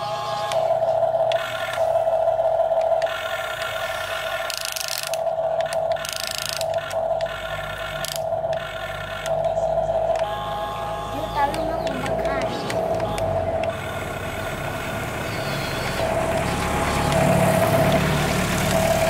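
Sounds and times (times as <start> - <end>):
toy excavator motors whining: 0.0 - 19.0.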